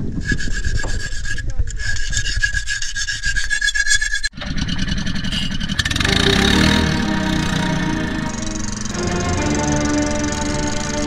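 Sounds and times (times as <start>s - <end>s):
small engine rasping rattle: 0.0s - 11.0s.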